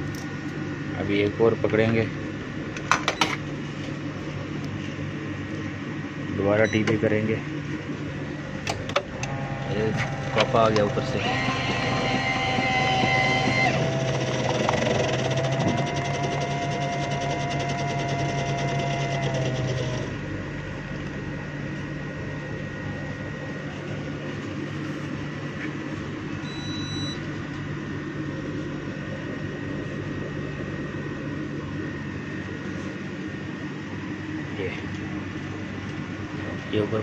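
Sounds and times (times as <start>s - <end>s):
low machine hum: 0.0s - 37.0s
vending machine whirring: 0.0s - 37.0s.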